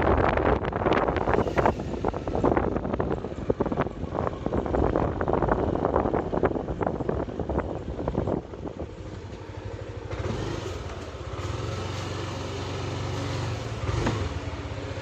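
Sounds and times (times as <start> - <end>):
scooter engine droning: 0.0 - 15.0.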